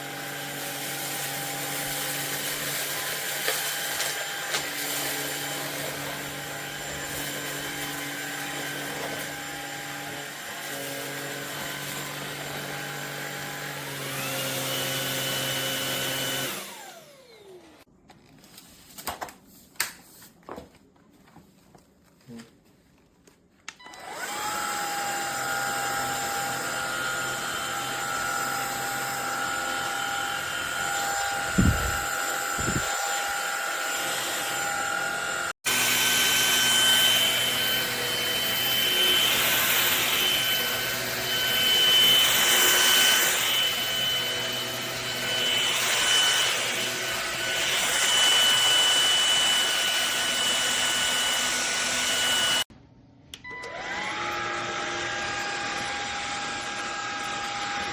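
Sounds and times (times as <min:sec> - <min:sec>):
vacuum cleaner motor whine: 0:00.0 - 0:17.9, 0:23.8 - 0:52.7, 0:53.4 - 0:57.9.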